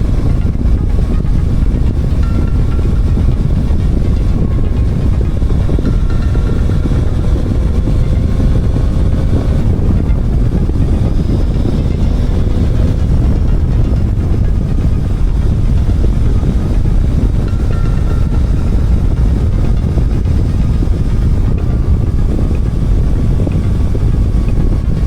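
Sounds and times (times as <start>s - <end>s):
motorcycle engine drone: 0.0s - 25.0s
wind rumble on microphone: 0.0s - 25.0s.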